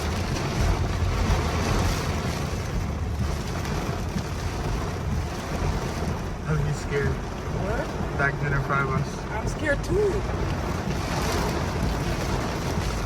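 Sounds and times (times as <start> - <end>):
rain hiss inside car: 0.0 - 13.0
road noise low rumble: 0.0 - 13.0.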